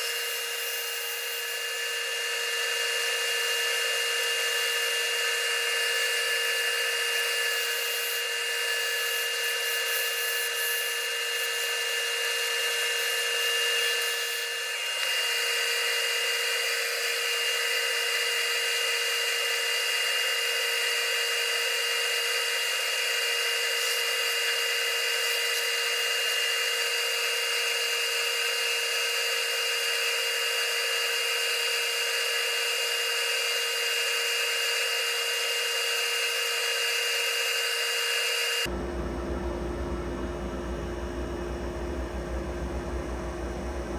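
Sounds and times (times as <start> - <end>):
wood lathe humming: 0.0 - 43.9.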